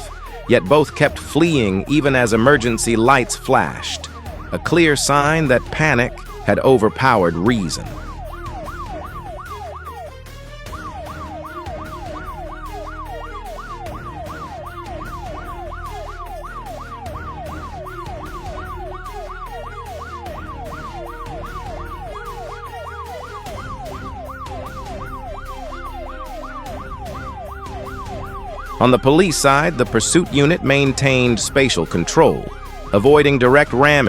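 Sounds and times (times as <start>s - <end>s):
background music with steady beat: 0.0s - 34.0s
police siren yelping: 0.0s - 34.0s.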